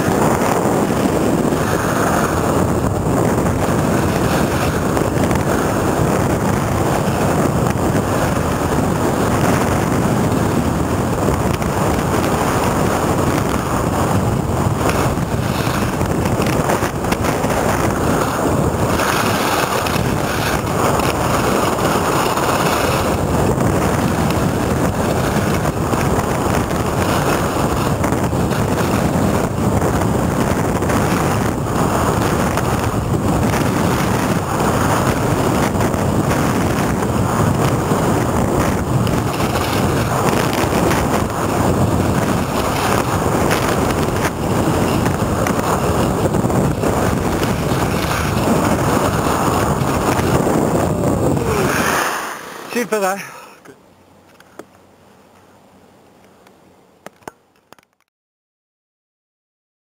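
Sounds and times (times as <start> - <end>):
skis scraping over snow: 0.0 - 53.6
wind rushing over microphone: 0.0 - 54.7.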